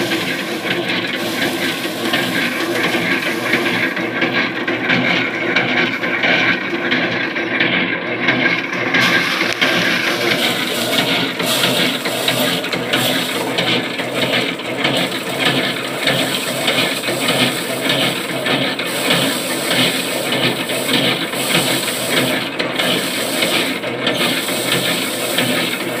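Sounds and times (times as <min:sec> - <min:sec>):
machine drone: 0:00.0 - 0:26.0
thresher drum rattling through straw: 0:00.0 - 0:26.0.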